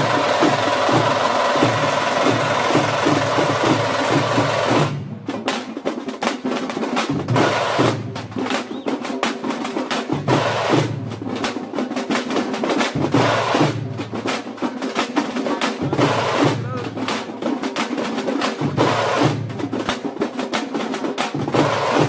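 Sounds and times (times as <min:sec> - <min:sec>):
drums beaten with sticks: 0:00.0 - 0:22.0.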